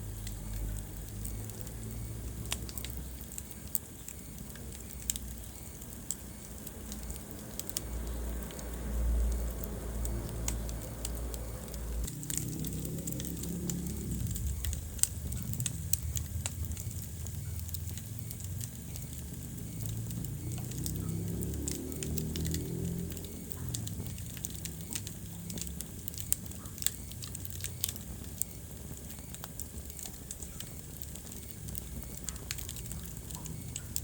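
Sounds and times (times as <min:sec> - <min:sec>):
low rumble of flames: 0:00.0 - 0:34.0
wood fire crackling and popping: 0:00.0 - 0:34.0.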